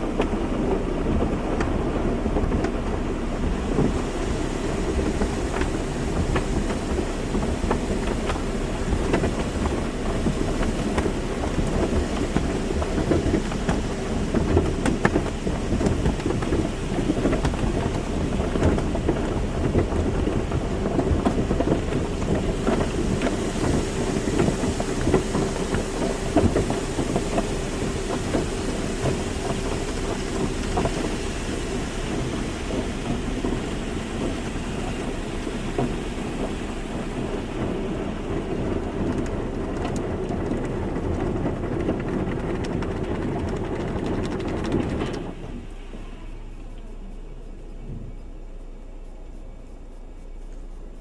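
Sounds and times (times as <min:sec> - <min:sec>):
water jets drumming on car body: 0:00.0 - 0:51.0
faint steady hum: 0:02.8 - 0:51.0.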